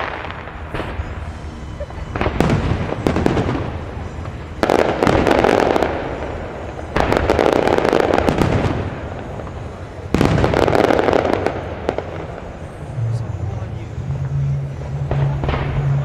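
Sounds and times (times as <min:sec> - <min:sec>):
dense firework crackling: 0:00.0 - 0:16.0.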